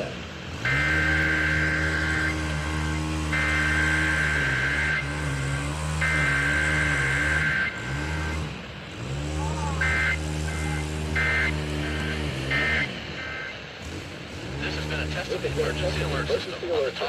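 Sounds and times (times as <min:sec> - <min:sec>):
buzzing two-tone data bursts: 0:00.5 - 0:08.6, 0:09.8 - 0:16.4.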